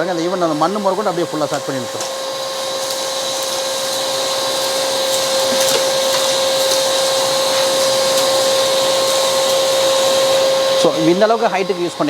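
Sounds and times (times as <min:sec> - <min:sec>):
vacuum cleaner whining: 0:00.0 - 0:12.0.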